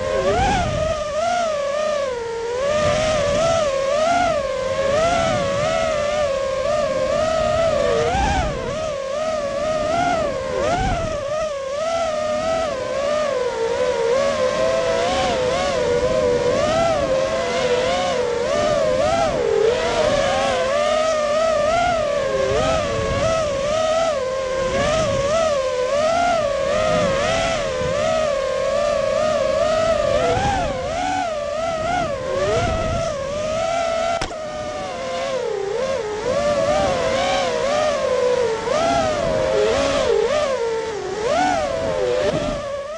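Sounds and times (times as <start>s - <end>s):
drone motors whining: 0.0s - 42.9s
wind rumble on microphone: 0.0s - 42.9s.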